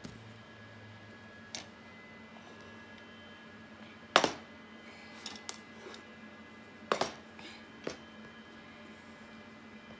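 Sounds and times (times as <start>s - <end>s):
faint steady hum: 0.0s - 9.9s.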